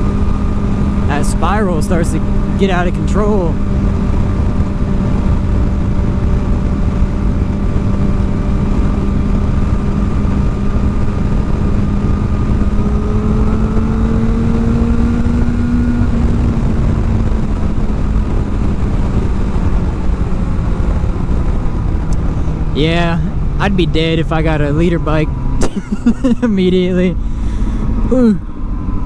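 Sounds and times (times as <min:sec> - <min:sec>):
wind noise on microphone: 0:00.0 - 0:25.8
motorcycle engine cruising: 0:00.0 - 0:29.0.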